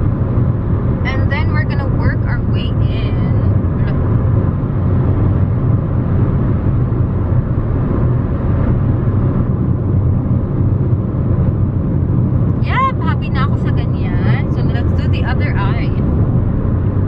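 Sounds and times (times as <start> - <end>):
car cabin road and engine rumble: 0.0 - 17.0.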